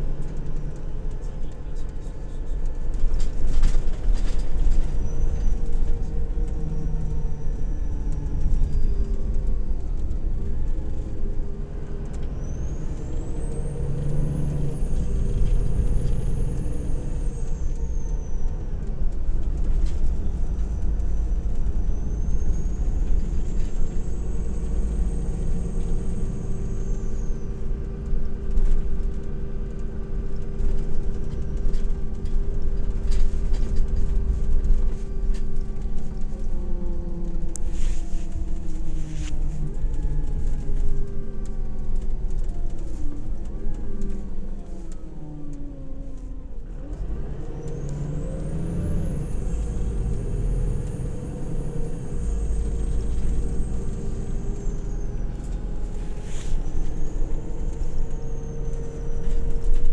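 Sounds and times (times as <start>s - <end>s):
diesel engine rumble: 0.0s - 59.9s
road noise: 0.0s - 59.9s.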